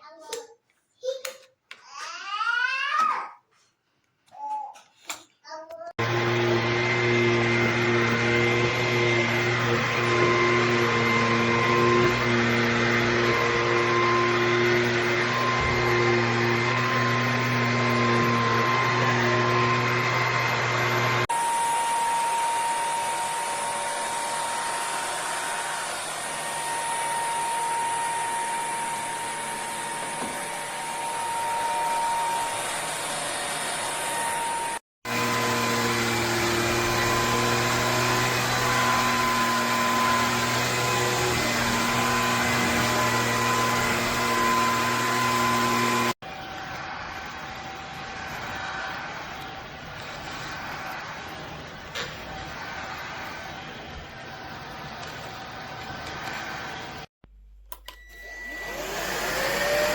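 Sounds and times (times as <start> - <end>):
stick vacuum whining: 6.0 - 57.1, 57.7 - 59.9.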